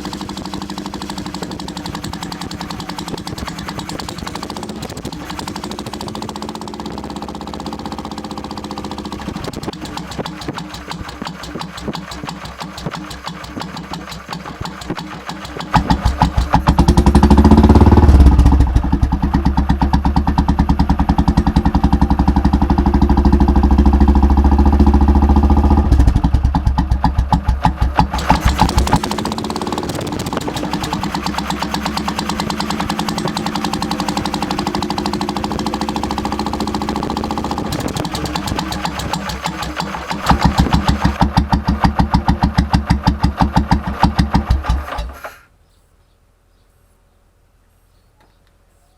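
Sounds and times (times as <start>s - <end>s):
motorcycle engine idling and revving: 0.0s - 45.5s.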